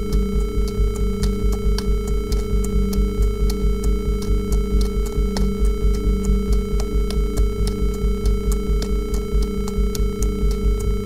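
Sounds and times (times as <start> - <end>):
soft repeating clicks: 0.0 - 11.0.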